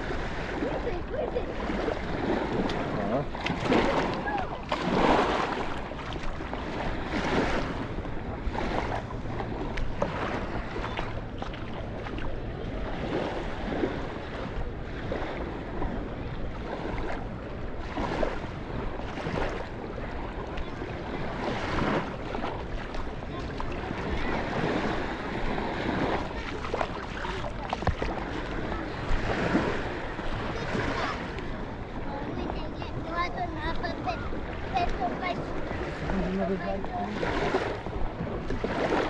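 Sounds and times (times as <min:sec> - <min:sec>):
small waves washing on shore: 0:00.0 - 0:39.0
wind rumble on microphone: 0:00.0 - 0:39.0.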